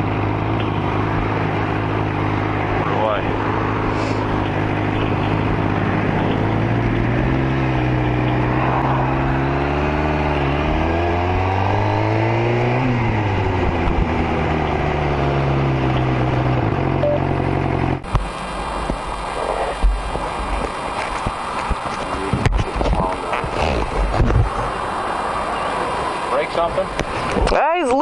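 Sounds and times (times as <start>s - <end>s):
motorcycle engine revving: 0.0s - 27.6s.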